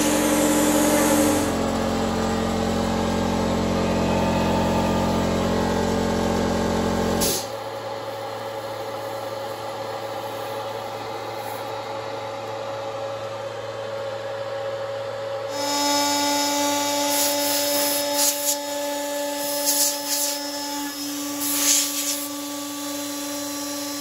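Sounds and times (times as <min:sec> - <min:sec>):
loud low machinery drone: 0:00.0 - 0:24.0
steady machinery hum: 0:00.0 - 0:24.0.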